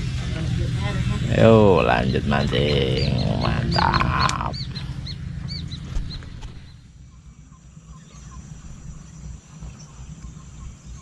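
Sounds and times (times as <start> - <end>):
faint bird chirps: 1.6 - 11.0.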